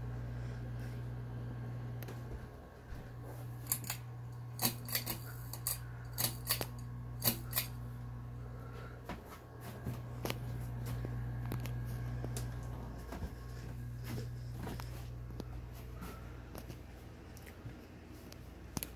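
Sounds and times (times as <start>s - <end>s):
ceiling fan motor hum: 0.0s - 18.9s.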